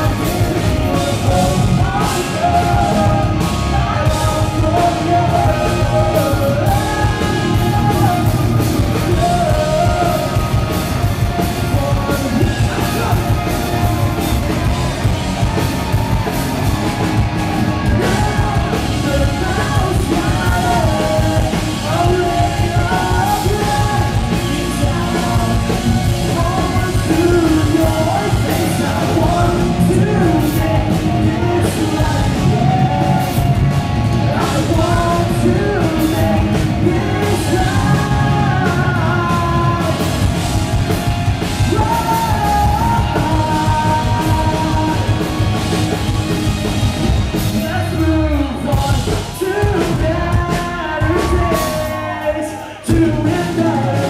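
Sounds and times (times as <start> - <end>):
person singing and yelling: 0.0 - 46.4, 47.5 - 54.0
electric guitars: 0.0 - 54.0
rock band playing: 0.0 - 54.0.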